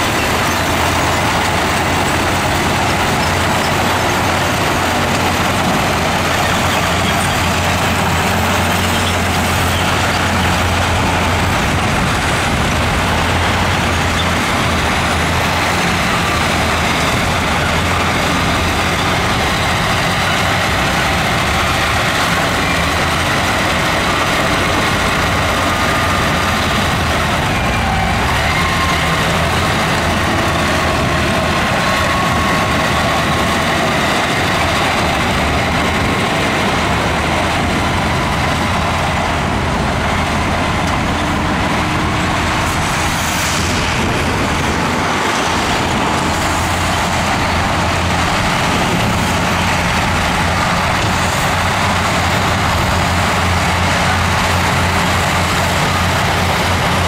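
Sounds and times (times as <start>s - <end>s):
heavy diesel machinery engines: 0.0s - 57.0s.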